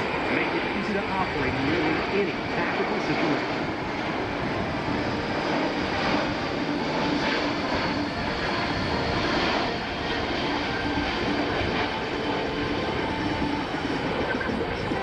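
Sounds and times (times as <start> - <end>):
jet engines roaring: 0.0 - 15.0
low hum: 0.0 - 15.0.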